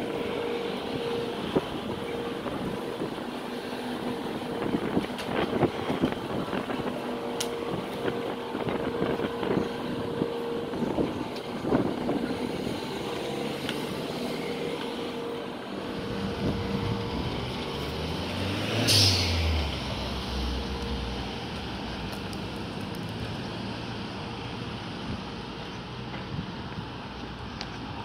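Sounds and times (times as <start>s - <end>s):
car engines moving slowly: 0.0s - 28.0s
low engine rumble: 0.0s - 28.0s.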